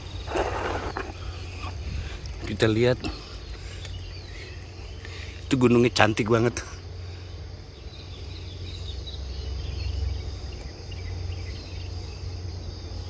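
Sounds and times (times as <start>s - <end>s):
short chirps of birds or insects: 0.0s - 13.0s.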